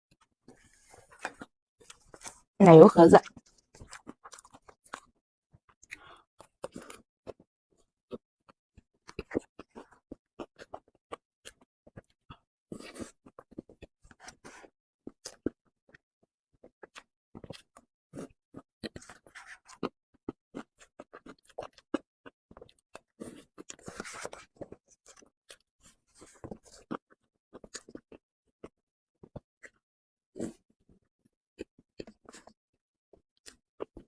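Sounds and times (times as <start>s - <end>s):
soft chewing: 0.2s - 2.5s, 3.3s - 16.0s, 16.6s - 29.8s, 31.6s - 34.0s.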